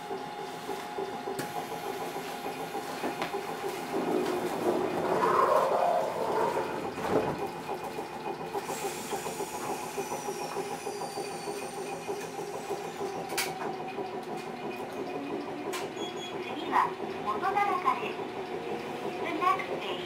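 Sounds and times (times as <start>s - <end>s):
train wheels rumbling: 1.2s - 20.0s.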